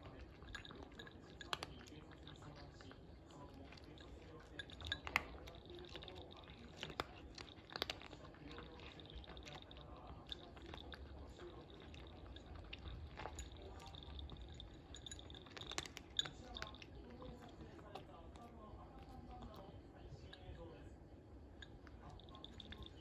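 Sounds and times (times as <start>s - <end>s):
cat crunching dry kibble: 0.0s - 20.6s, 21.5s - 23.0s.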